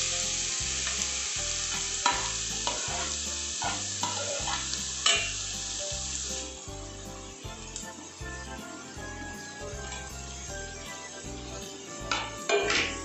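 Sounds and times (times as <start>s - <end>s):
carrot sizzling in ghee: 0.0s - 13.0s.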